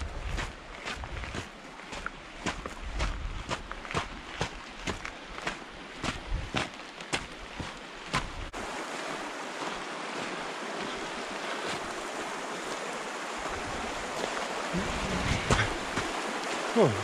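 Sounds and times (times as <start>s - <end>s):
footsteps on stony ground: 0.0s - 16.7s
stream rushing: 0.0s - 17.0s.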